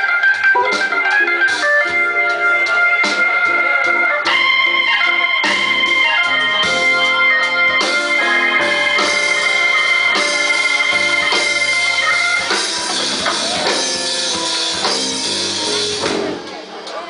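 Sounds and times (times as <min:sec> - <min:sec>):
held organ chords: 0:00.0 - 0:16.5
live band music: 0:00.0 - 0:17.0.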